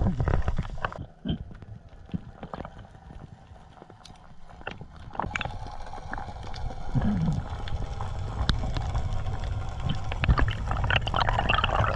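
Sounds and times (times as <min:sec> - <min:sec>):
underwater rumble of moving water: 0:00.0 - 0:11.9.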